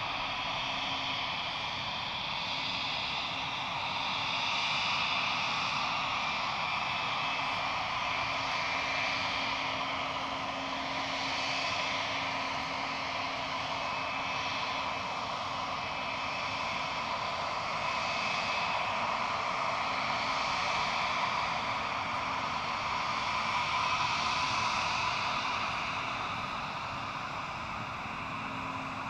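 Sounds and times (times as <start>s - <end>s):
jet engine whine: 0.0s - 29.0s.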